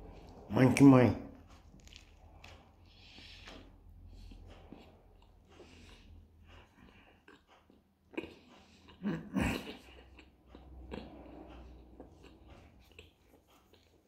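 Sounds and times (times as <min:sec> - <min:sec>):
man chewing with wet clicks: 0:01.4 - 0:14.0.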